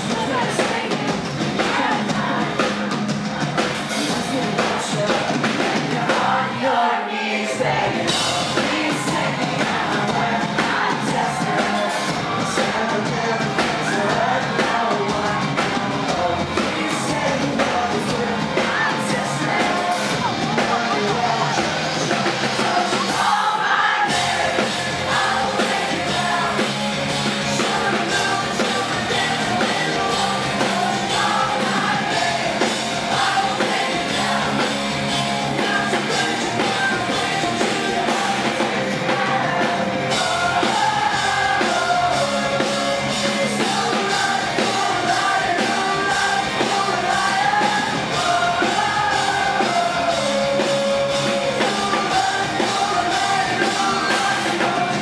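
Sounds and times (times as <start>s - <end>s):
drums: 0.0s - 55.0s
man singing: 3.6s - 55.0s
electric guitars: 7.6s - 23.4s, 24.1s - 55.0s.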